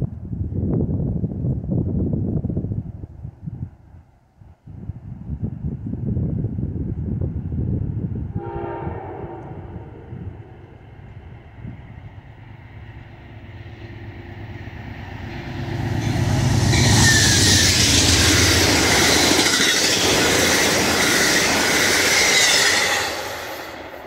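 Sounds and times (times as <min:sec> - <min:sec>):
train passing at speed: 0:02.2 - 0:24.0.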